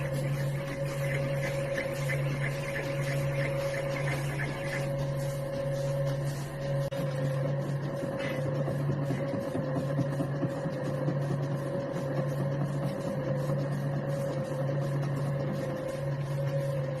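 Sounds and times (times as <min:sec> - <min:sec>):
lathe high steady tone: 0:00.0 - 0:17.0
metal lathe motor hum: 0:00.0 - 0:17.0.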